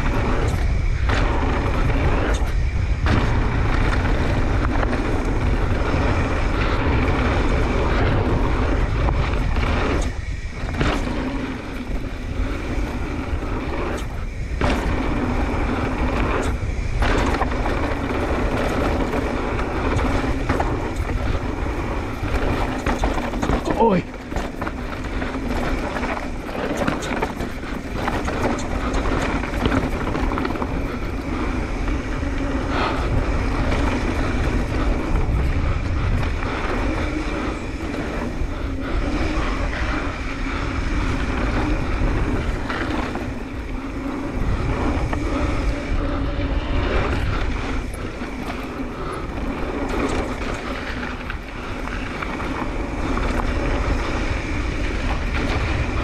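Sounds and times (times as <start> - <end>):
bike knocks and rattles: 0.0 - 56.0
tyres rumbling on dirt: 0.0 - 56.0
wind buffeting camera: 0.0 - 56.0.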